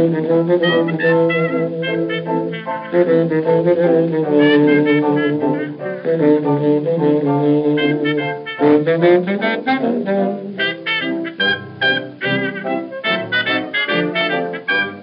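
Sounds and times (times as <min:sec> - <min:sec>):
dance band saxophones and brass: 0:00.0 - 0:15.0.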